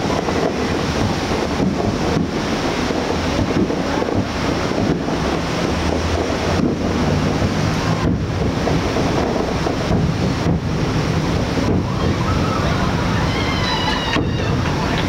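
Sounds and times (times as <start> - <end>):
fireworks bursting and crackling: 0.0 - 13.2.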